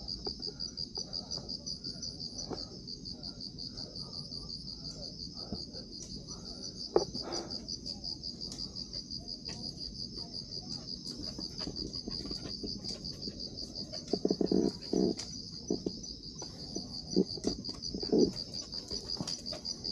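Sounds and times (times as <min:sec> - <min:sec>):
night insects chirping: 0:00.0 - 0:19.9.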